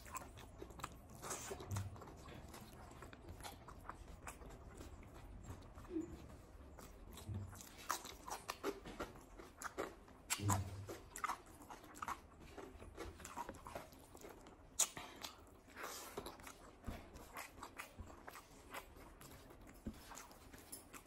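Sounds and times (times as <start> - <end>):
kitten eating: 0.0 - 21.0
wet chewing sounds: 0.0 - 21.0.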